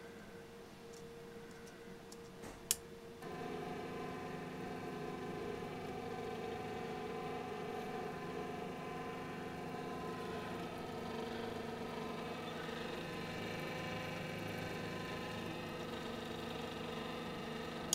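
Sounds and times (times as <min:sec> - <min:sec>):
stepper motor whine: 0:03.2 - 0:17.9.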